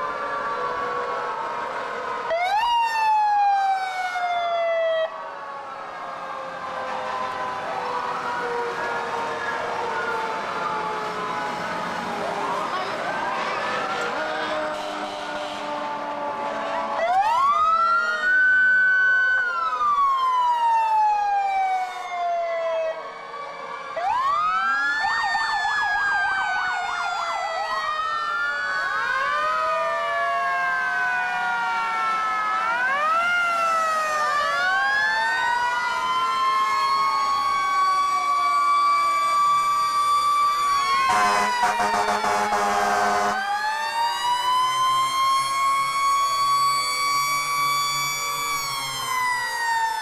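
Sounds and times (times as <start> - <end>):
fire engine sirens wailing: 0.0 - 50.0.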